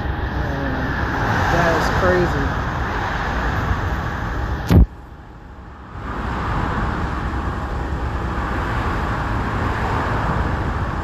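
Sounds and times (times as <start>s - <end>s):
highway traffic noise: 0.0s - 11.0s.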